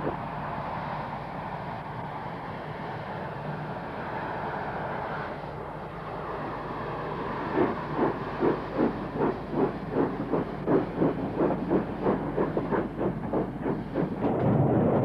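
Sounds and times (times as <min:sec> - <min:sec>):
locomotive exhaust beats: 0:00.0 - 0:15.0
steam train rumbling: 0:00.0 - 0:15.0.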